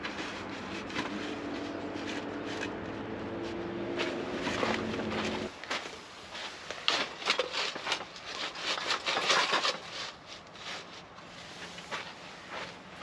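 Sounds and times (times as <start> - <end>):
rustling with knocks and scrapes: 0.0 - 13.0.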